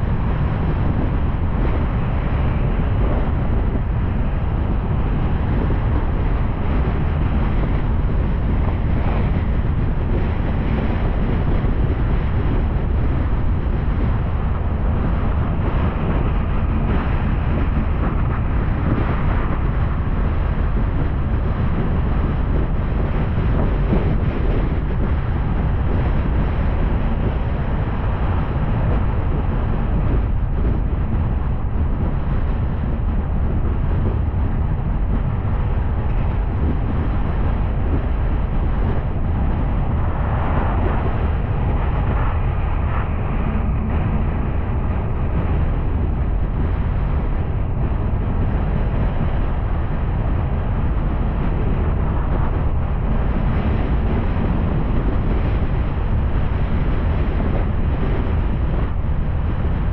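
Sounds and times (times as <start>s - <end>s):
car road and engine rumble: 0.0s - 59.9s
wind on microphone: 0.0s - 59.9s.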